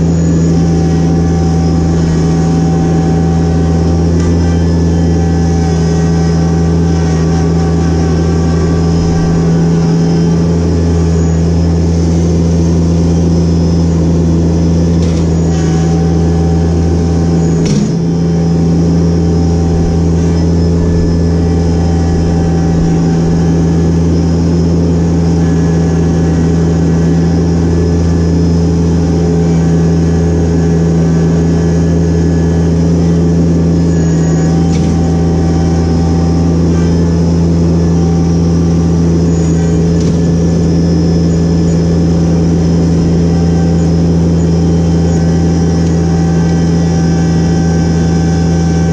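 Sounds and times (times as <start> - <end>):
diesel tractor engine running: 0.0 - 48.9.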